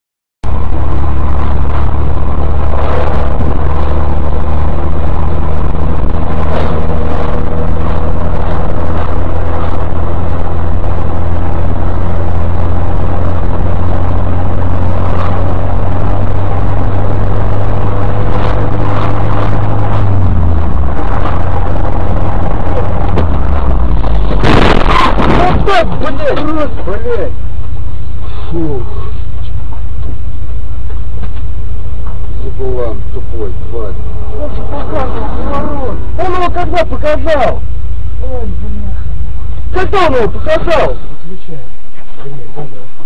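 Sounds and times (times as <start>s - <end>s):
car engine and road drone: 0.4s - 43.0s
faint whine: 0.4s - 43.0s.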